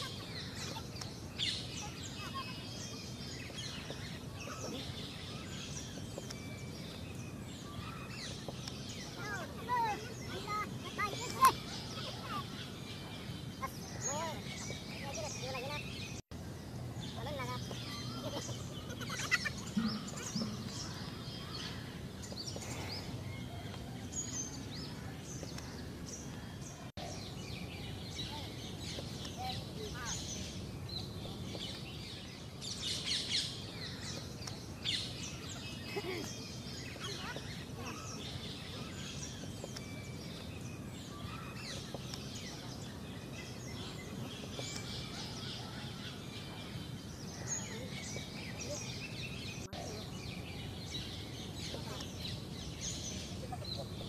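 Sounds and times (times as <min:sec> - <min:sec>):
birds chirping: 0:00.0 - 0:54.0
outdoor background noise: 0:00.0 - 0:54.0.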